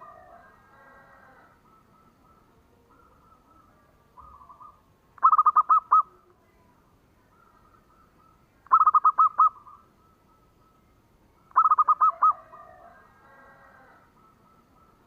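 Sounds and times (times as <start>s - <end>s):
dove cooing: 0.0s - 6.3s, 7.3s - 10.8s, 11.4s - 15.0s
soft bird chirping: 1.5s - 12.4s, 13.7s - 15.0s.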